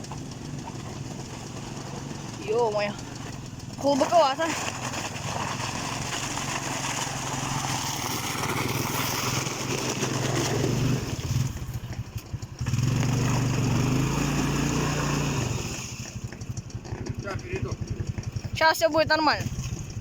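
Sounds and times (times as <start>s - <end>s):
off-road vehicle engine under load: 0.0s - 20.0s.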